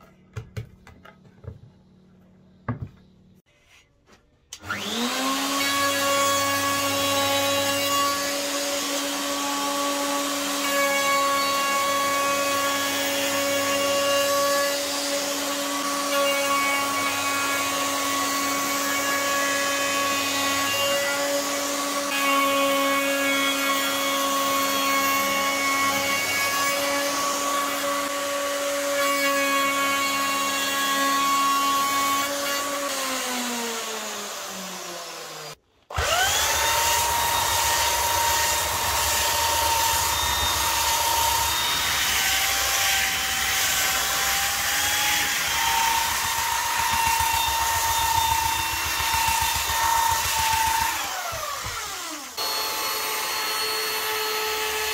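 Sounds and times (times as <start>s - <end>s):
electric router whining: 4.6s - 54.9s.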